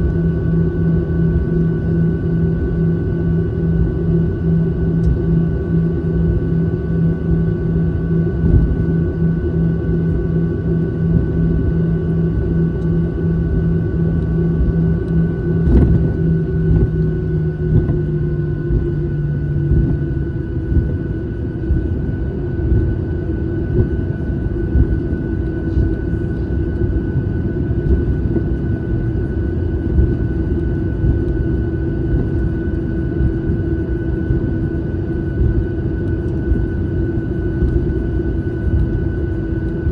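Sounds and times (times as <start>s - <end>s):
airliner cabin noise: 0.0s - 39.9s
low hum: 0.0s - 39.9s.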